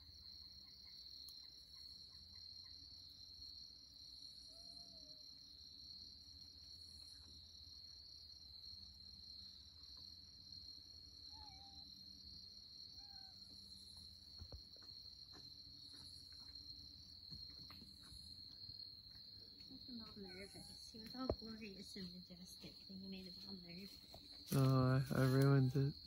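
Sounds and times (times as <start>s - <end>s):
crickets chorus: 0.0s - 26.0s.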